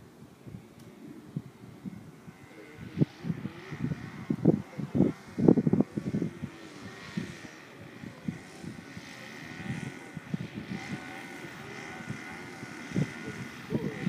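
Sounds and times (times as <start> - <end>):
model plane motor droning: 0.0 - 14.0
wind buffeting microphone: 0.0 - 14.0.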